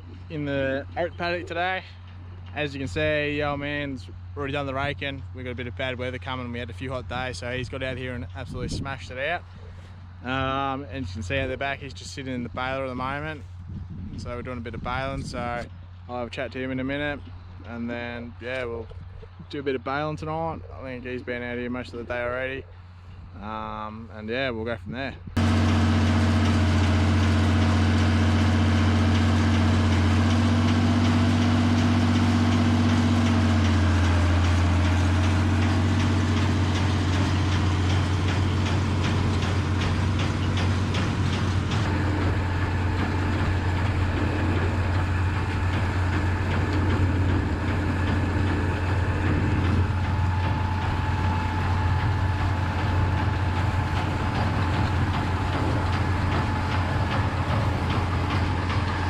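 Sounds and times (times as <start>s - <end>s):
tractor diesel engine running: 0.0s - 18.7s, 25.4s - 59.0s.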